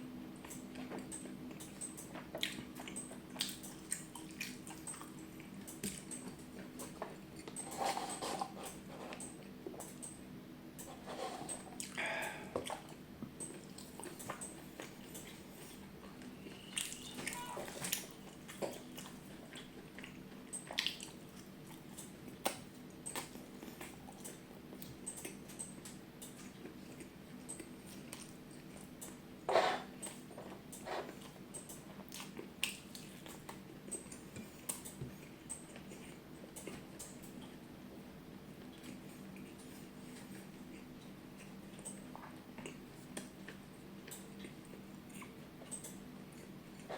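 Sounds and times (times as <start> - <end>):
chewing and biting food: 0.4 - 10.0, 10.9 - 29.2, 29.8 - 37.6, 38.6 - 46.9.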